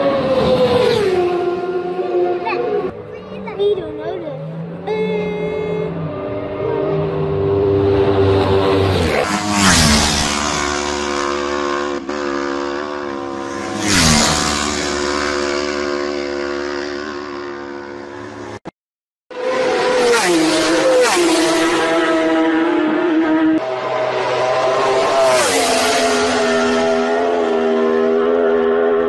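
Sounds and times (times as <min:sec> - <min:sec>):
racing motorcycles passing: 0:00.0 - 0:18.6, 0:19.3 - 0:29.0.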